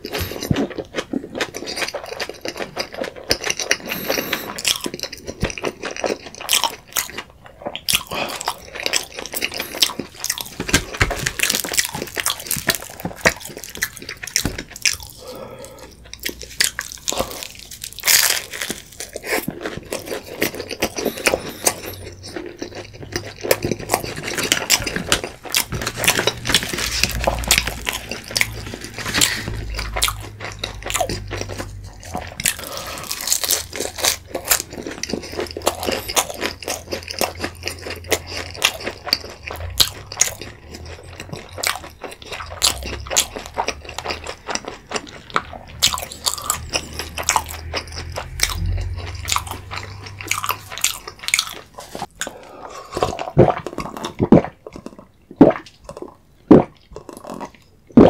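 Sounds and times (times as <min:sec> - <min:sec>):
chewing with crunching: 0:00.0 - 0:58.0.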